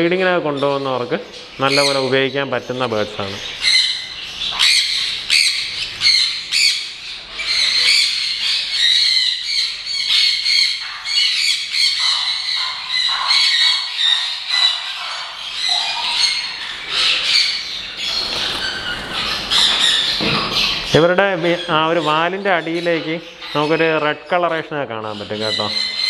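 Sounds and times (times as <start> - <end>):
parrots squawking and chirping: 0.2 - 26.0.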